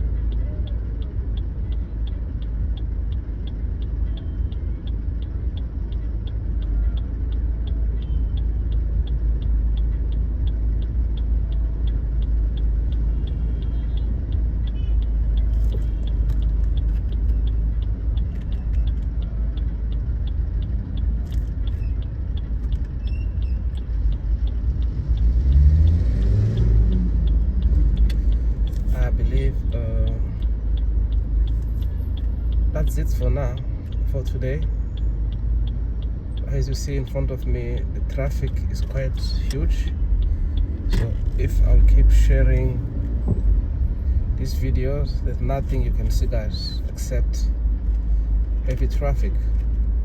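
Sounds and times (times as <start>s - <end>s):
car engine from inside cabin: 0.0s - 50.0s
faint steady ticking: 0.0s - 50.0s
road rumble: 0.0s - 50.0s.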